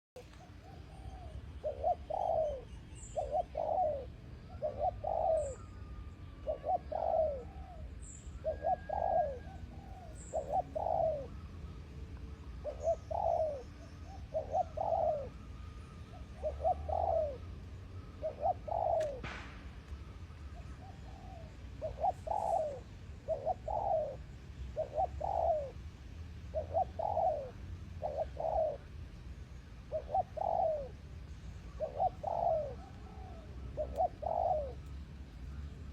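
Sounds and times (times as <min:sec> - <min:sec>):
dove cooing: 0:00.2 - 0:19.4, 0:20.0 - 0:25.9, 0:26.5 - 0:29.0, 0:29.8 - 0:35.0.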